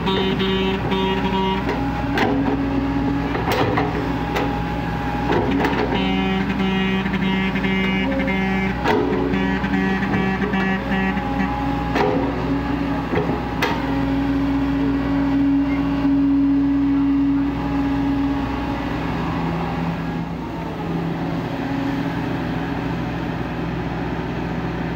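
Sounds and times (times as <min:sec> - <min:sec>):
heavy diesel machinery running: 0:00.0 - 0:24.9.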